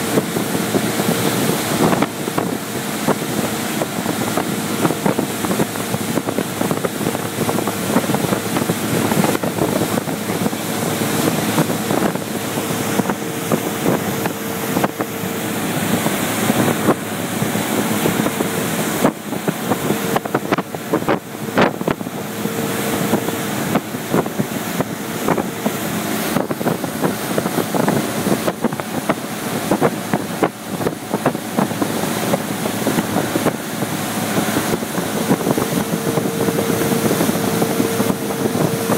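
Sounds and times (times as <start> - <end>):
motorboat engine hum: 0.0 - 38.9
wind buffeting microphone: 0.0 - 38.9.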